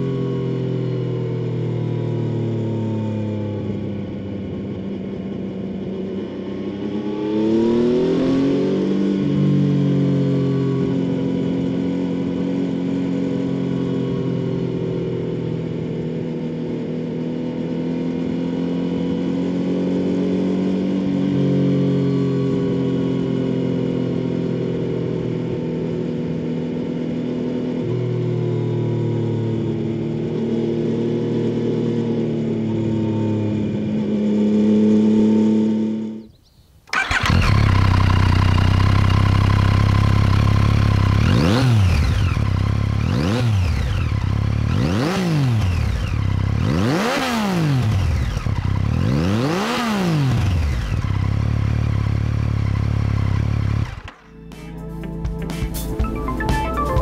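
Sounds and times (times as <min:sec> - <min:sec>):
motorcycle engine while riding: 0:00.0 - 0:56.1.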